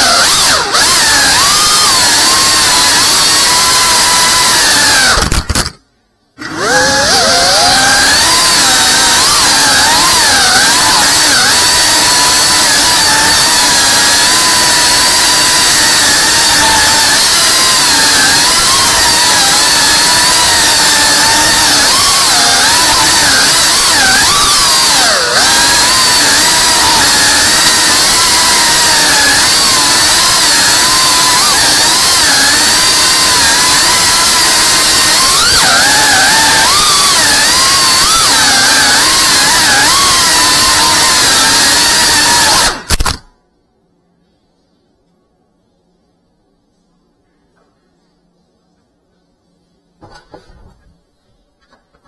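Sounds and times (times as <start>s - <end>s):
quadcopter motors whining: 0.0s - 5.8s, 6.4s - 43.2s.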